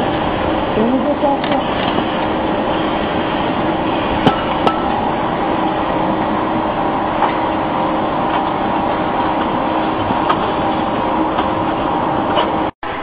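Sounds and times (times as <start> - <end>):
belt conveyor running: 0.0 - 13.0.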